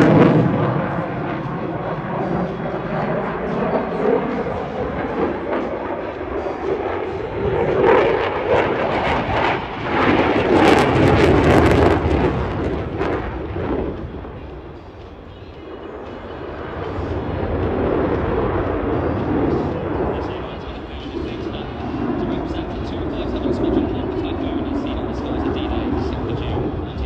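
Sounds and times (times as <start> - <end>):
jet engine roar with crackle: 0.0 - 27.0.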